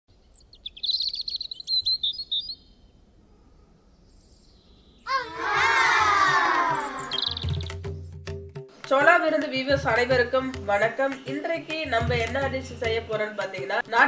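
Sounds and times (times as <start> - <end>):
birds chirping: 0.1 - 8.3, 10.2 - 13.7.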